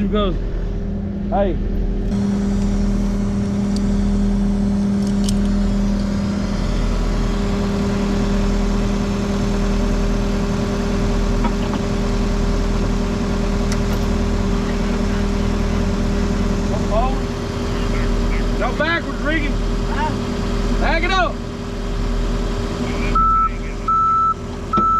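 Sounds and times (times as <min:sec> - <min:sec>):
skid steer engine running: 0:00.0 - 0:24.9.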